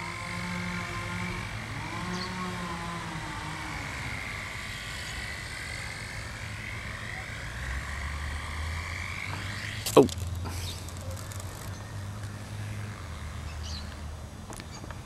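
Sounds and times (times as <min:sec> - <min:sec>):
toy helicopter motor whine: 0:00.0 - 0:13.8.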